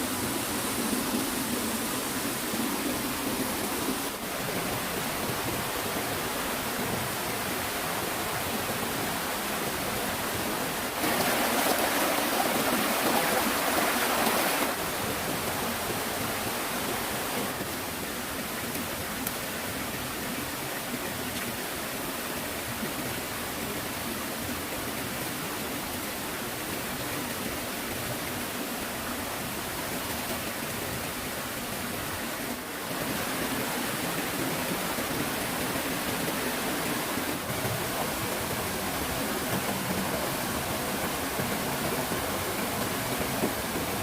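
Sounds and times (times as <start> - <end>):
stream water rushing: 0.0 - 44.0.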